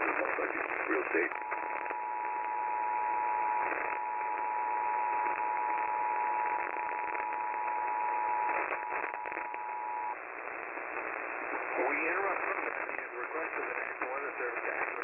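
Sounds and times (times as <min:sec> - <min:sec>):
radio hiss: 0:00.0 - 0:15.0
static crackles: 0:00.0 - 0:15.0.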